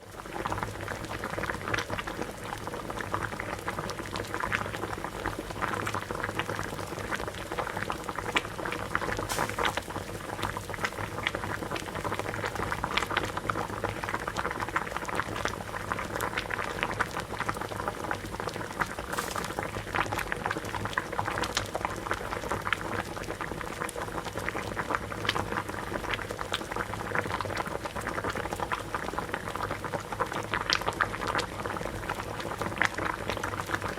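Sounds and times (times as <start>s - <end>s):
water boiling and bubbling: 0.0s - 33.9s.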